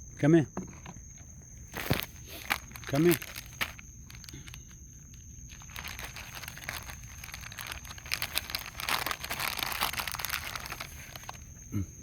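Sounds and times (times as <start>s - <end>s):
raccoons crunching food: 1.6s - 11.6s.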